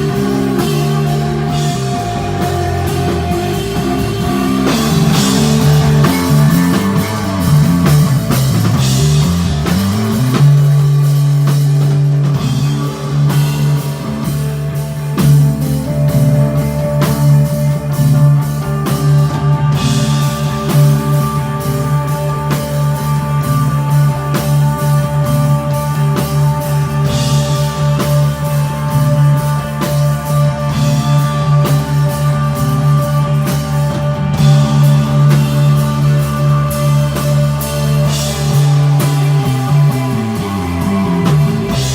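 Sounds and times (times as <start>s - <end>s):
bass guitar: 0.0s - 41.9s
drum kit: 0.0s - 41.9s
electric guitar: 0.0s - 41.9s.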